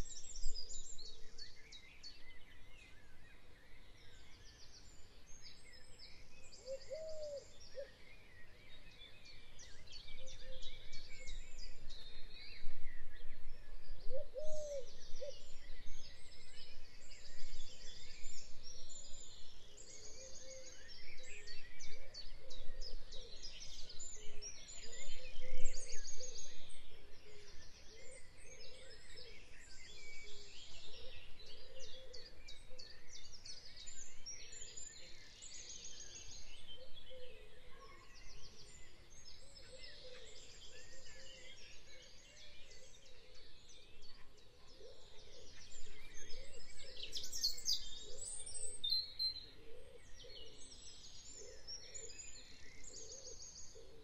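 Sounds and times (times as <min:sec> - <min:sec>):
many birds singing: 0:00.0 - 0:54.0.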